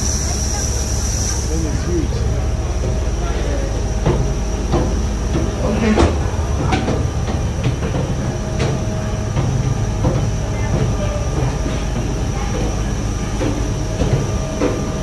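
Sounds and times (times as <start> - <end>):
airliner engine drone: 0.0 - 15.0.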